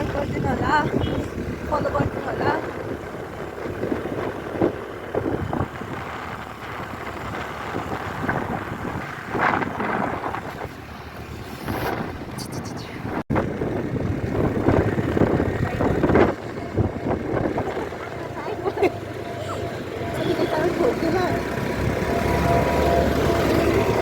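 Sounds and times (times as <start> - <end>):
vehicle engine and road noise: 0.0 - 24.0
wind buffeting microphone: 0.0 - 24.0.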